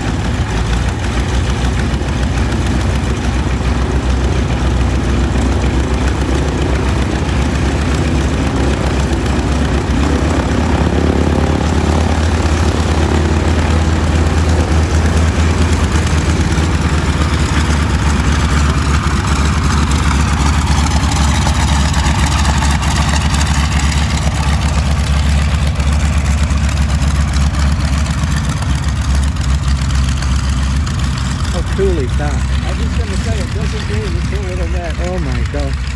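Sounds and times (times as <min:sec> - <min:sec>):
biplane engine running: 0:00.0 - 0:35.9.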